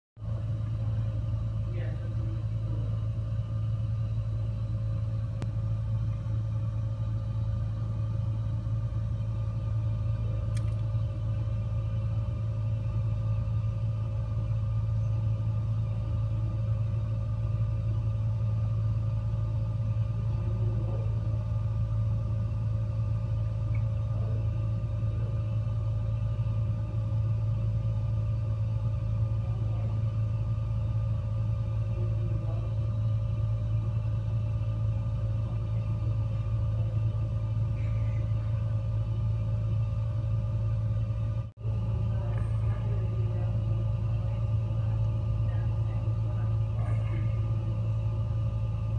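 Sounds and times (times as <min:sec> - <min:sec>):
faint hum: 0:00.2 - 0:48.9
gas fireplace rumbling: 0:00.2 - 0:48.9.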